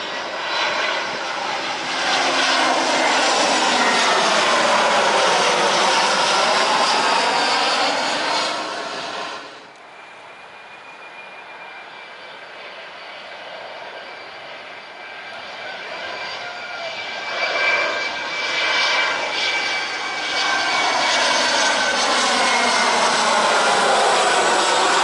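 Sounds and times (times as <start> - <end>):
jet airliner engine whine: 0.0 - 25.0.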